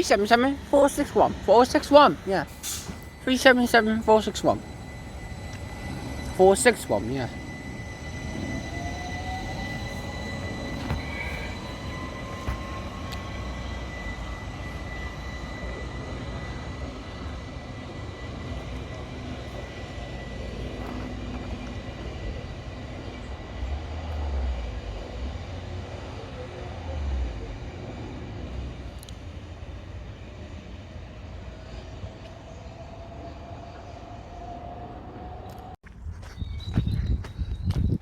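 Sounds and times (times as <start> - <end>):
steady high whine: 0.0 - 34.3
electric train motor whine: 0.0 - 35.8
train running noise: 0.0 - 38.0.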